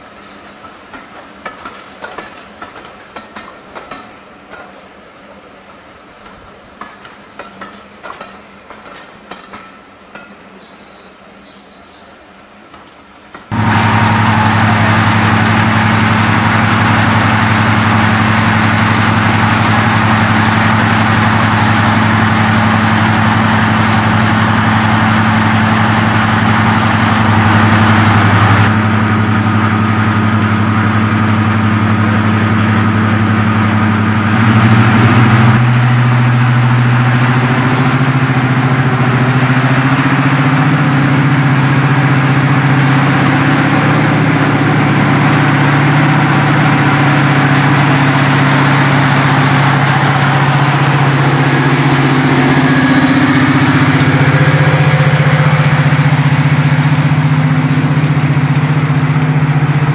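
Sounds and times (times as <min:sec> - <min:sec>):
diesel locomotive idling: 0:00.0 - 0:59.9.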